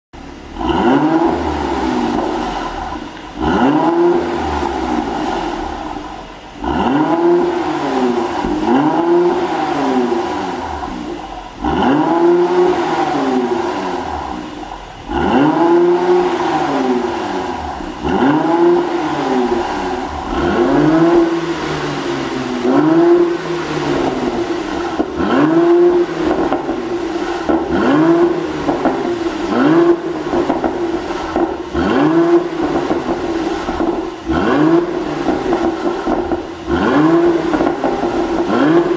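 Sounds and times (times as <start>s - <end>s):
car engine revving: 0.1s - 38.9s.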